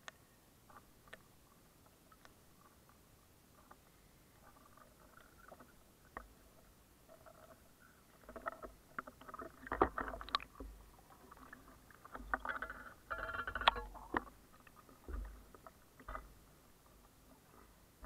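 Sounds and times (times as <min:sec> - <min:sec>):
river water splashing and lapping: 0:01.2 - 0:18.0.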